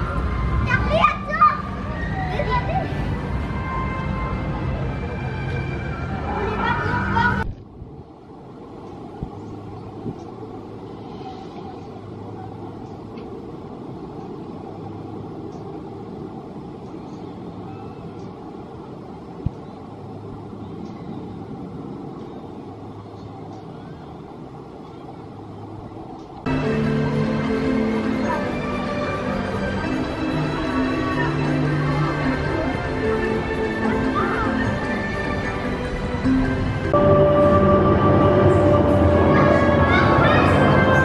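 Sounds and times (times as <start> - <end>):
outdoor noise: 0.0 - 41.0
roller coaster rumbling on track: 0.0 - 41.0.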